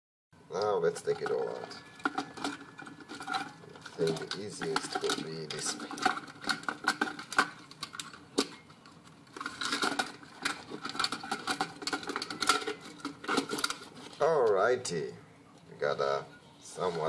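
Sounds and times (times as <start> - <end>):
wire scraping: 0.9 - 14.6.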